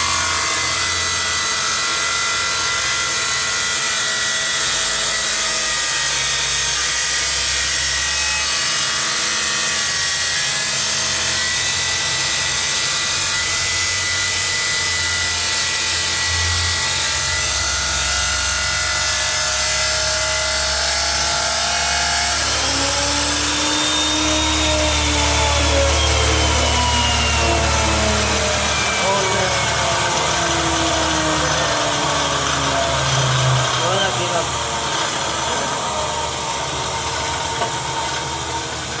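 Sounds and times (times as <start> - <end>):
power tool whining: 0.0 - 39.0.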